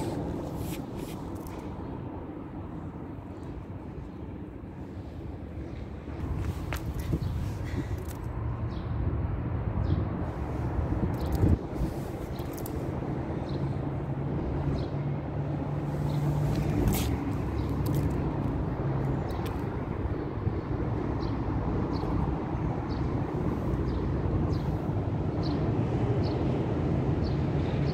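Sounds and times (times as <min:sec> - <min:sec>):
vehicle engine rumbling: 0:00.0 - 0:25.4.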